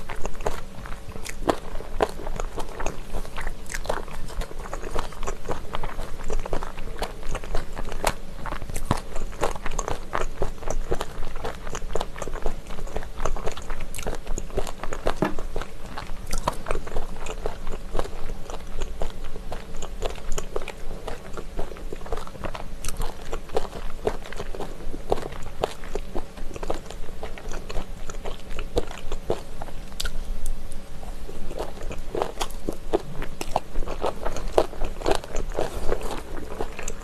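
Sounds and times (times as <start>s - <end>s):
crunchy chewing: 0.0s - 37.0s.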